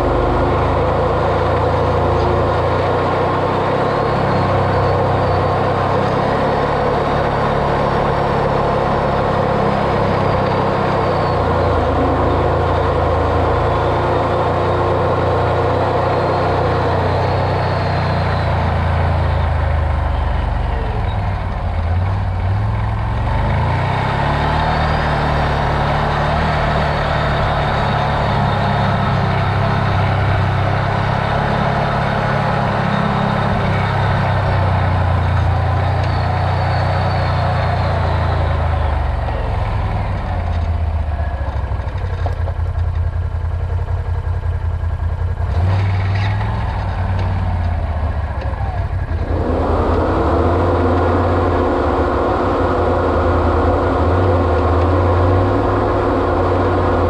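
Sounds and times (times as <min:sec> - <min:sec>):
off-road vehicle engine drone: 0:00.0 - 0:57.0.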